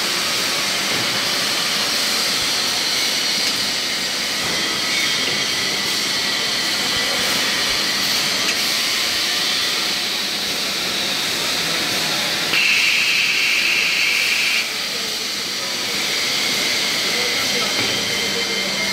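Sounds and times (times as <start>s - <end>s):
machine whirring with rollers: 0.0s - 18.9s.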